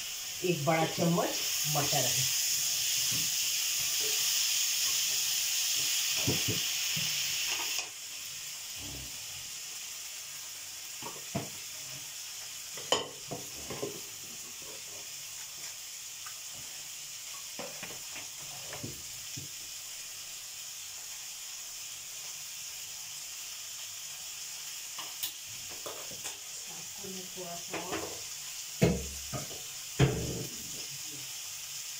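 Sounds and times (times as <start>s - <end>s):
vegetables sizzling in a wok: 0.0s - 31.9s.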